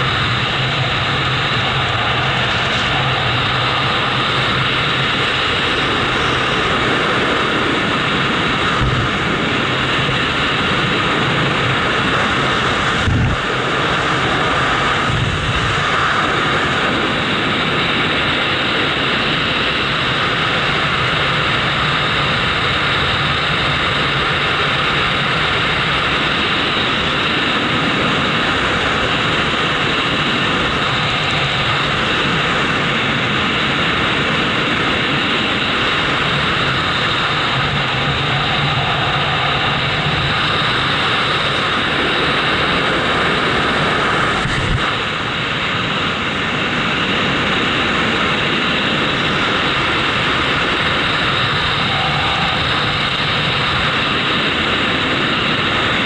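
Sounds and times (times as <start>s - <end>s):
loud rushing flight noise: 0.0s - 56.0s.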